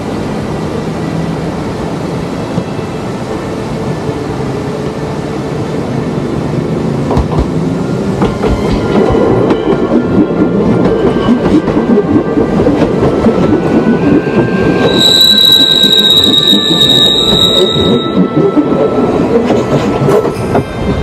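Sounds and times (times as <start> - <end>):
electric train rumble: 0.0 - 21.0.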